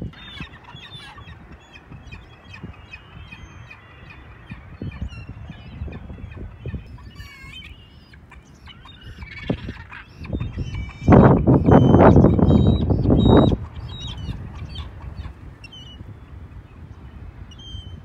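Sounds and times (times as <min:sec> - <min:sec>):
gulls calling: 0:00.0 - 0:18.0.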